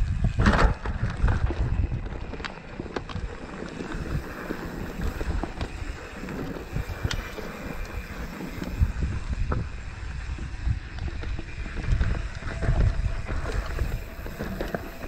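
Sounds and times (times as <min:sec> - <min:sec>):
bike rattling: 0:00.0 - 0:15.0
bike tyres crunching on rock: 0:00.0 - 0:15.0
wind noise on microphone: 0:00.0 - 0:15.0.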